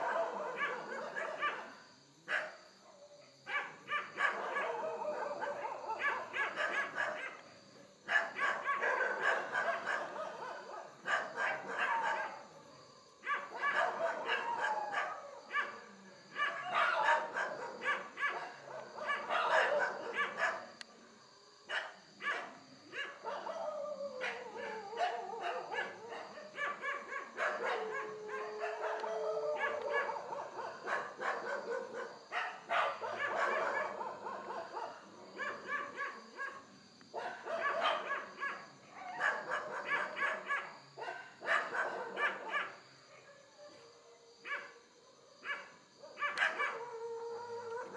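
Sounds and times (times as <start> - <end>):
dogs howling: 0.0 - 7.4, 8.1 - 20.7, 22.2 - 36.6, 37.2 - 47.9
dogs barking and yelping: 0.0 - 20.8, 21.7 - 47.9.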